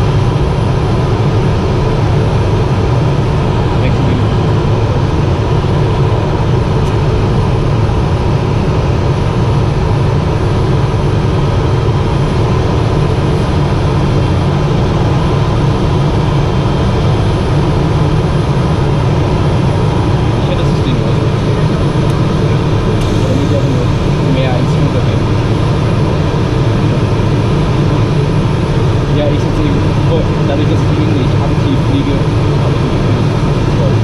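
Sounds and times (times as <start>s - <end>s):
turboprop engine drone in cabin: 0.0s - 34.0s.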